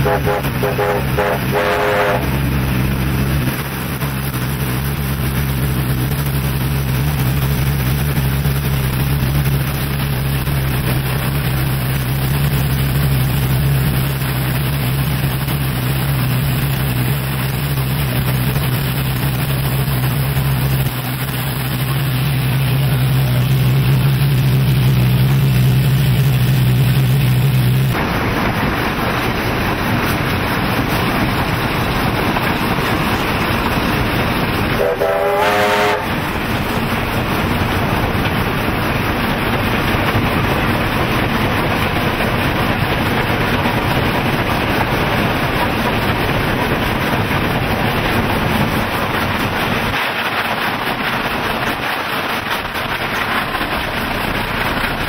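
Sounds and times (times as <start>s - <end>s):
steam train running: 0.0s - 55.0s.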